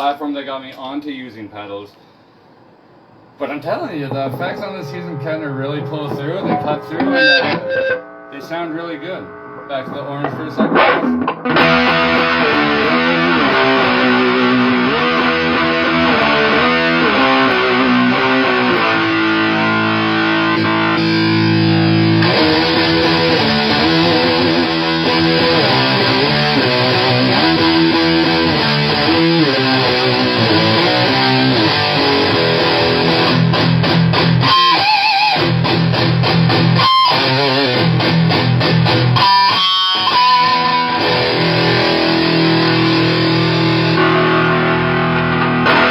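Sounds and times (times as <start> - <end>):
distorted electric guitar riffs: 2.8 - 45.9.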